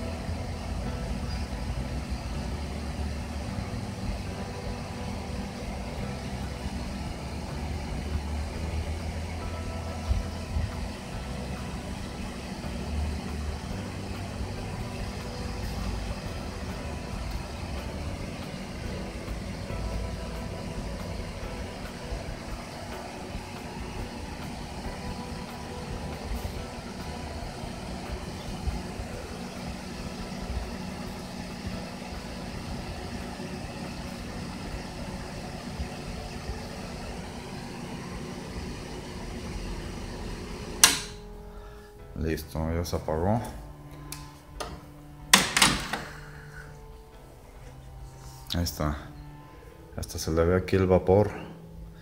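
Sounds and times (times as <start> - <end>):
cooling fan turning: 0.0 - 52.0
higher-pitched magnetron hum: 0.0 - 52.0
microwave oven humming: 0.0 - 52.0.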